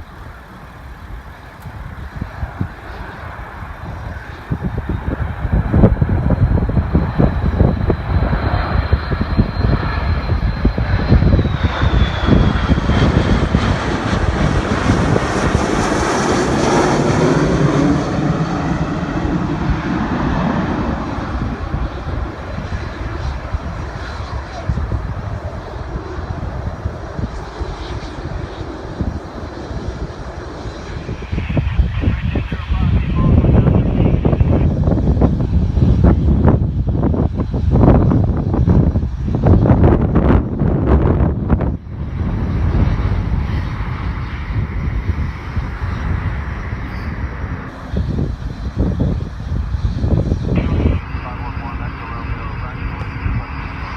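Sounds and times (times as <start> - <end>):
jet airliner passing: 0.0 - 53.9
wind buffeting microphone: 0.0 - 53.9.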